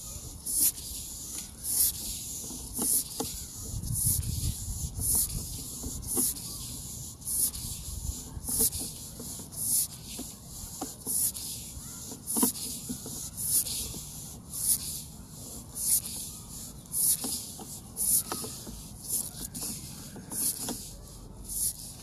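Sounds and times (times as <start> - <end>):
cable rasping through pipe: 0.0 - 22.0.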